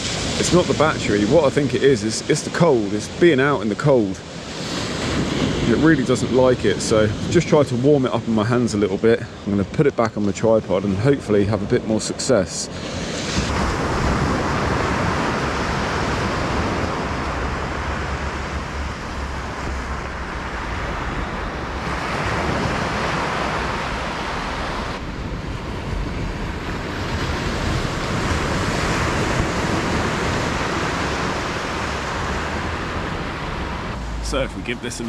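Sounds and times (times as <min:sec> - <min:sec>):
sea surf on beach: 0:00.0 - 0:35.0
wind rumbling on microphone: 0:00.0 - 0:35.0.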